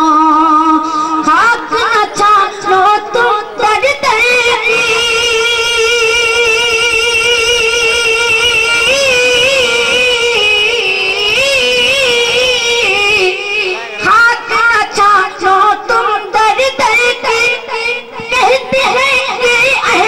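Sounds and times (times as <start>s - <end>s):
boy singing: 0.0s - 20.0s.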